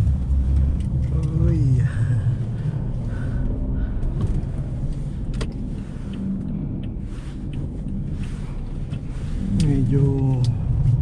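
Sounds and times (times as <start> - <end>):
car driving on snow: 0.0 - 11.0.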